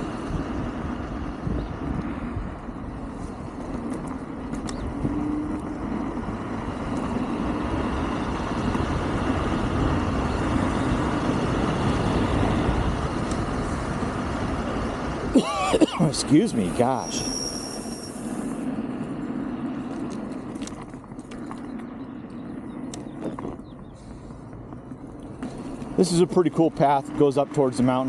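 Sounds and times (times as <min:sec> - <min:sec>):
scooter road noise: 0:00.0 - 0:28.0
wind rushing over microphone: 0:00.0 - 0:28.0.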